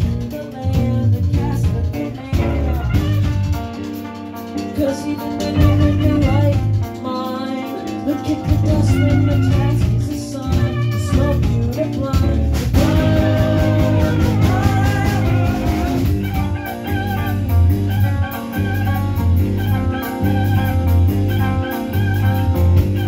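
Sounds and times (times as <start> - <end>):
live rock band: 0.0 - 23.0.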